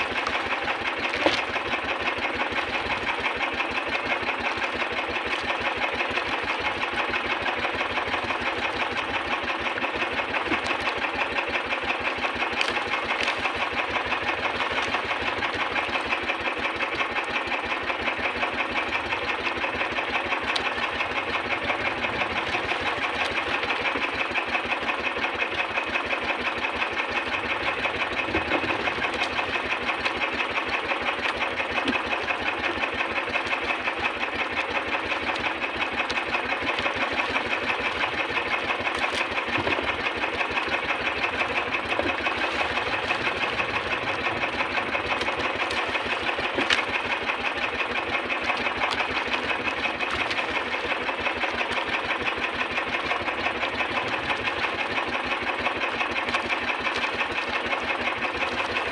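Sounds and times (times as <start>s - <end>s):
boat engine idling: 0.0s - 58.9s.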